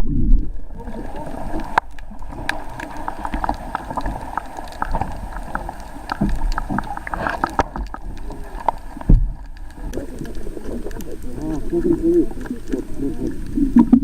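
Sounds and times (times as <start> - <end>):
low underwater rumble: 0.0 - 14.0
underwater clicks and crackles: 0.0 - 14.0.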